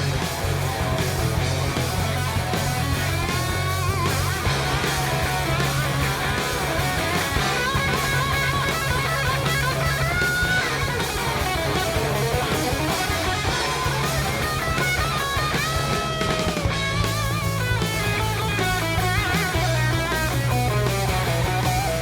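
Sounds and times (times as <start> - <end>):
bass line: 0.0 - 22.0
electric guitar lead: 0.0 - 22.0.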